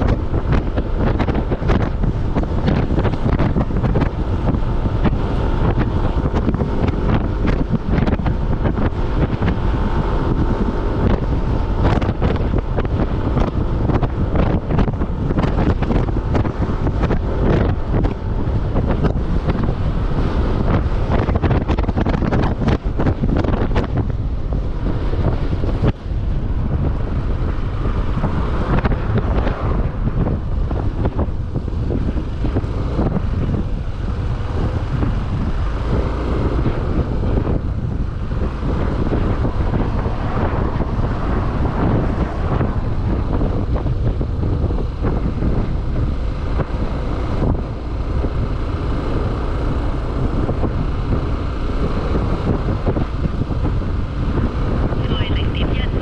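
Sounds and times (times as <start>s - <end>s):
motorbike ride rumble: 0.0s - 56.0s
wind buffeting microphone: 0.0s - 56.0s.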